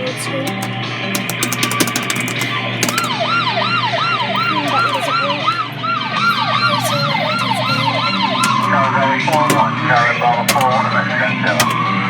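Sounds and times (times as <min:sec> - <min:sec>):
kiddie ride music: 0:00.0 - 0:12.0.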